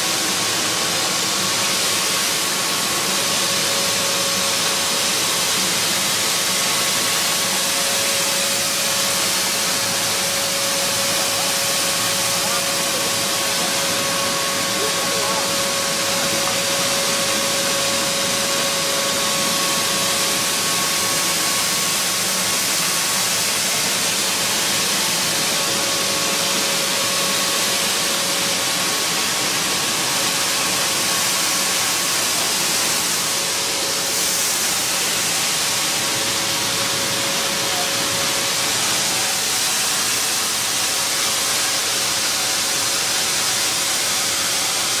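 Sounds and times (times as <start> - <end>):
mid-pitched machine whine: 0.0 - 45.0
rush of air from blower: 0.0 - 45.0.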